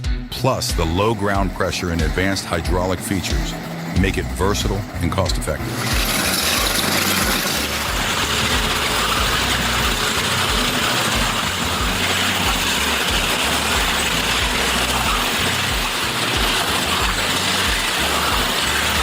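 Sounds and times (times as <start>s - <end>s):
continuous grinding: 0.0s - 19.0s
engine rumble: 0.0s - 19.0s.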